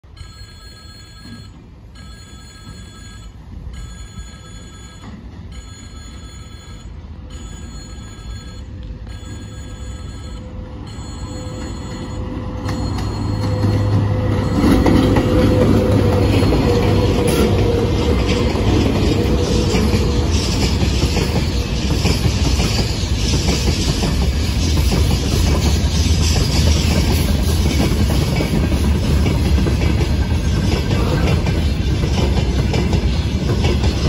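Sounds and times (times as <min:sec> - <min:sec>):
freight train passing: 0:00.0 - 0:34.0
level-crossing warning bell ringing: 0:00.0 - 0:34.0
locomotive low hum: 0:00.1 - 0:34.0
train wheels on rails: 0:00.1 - 0:34.0.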